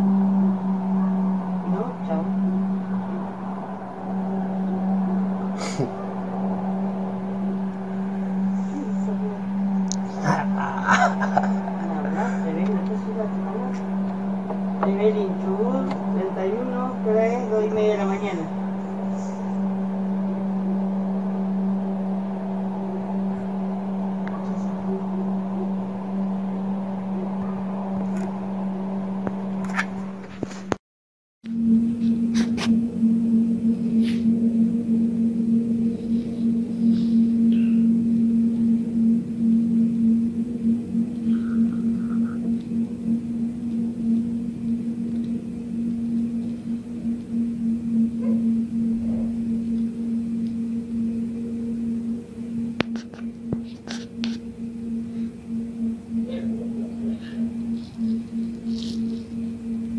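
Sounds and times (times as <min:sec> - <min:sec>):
faint high tones: 0:00.0 - 0:30.2, 0:31.5 - 0:59.9
steady low hum: 0:00.0 - 0:30.8, 0:31.4 - 0:59.9.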